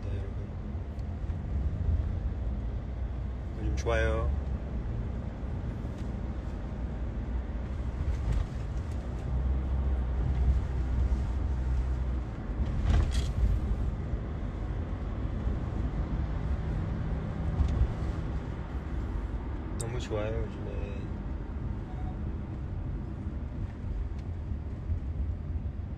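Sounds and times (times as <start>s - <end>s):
car engine and road rumble: 0.0s - 25.9s.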